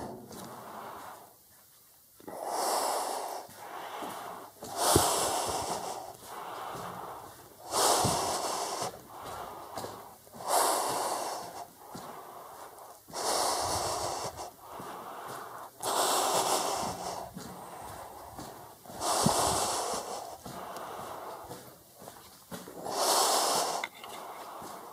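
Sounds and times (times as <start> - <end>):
person breathing heavily: 0.0 - 1.4, 2.2 - 24.9.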